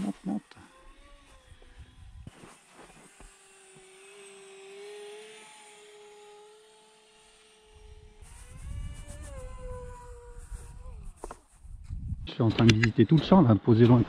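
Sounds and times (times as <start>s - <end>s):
model plane motors humming: 0.0s - 11.8s.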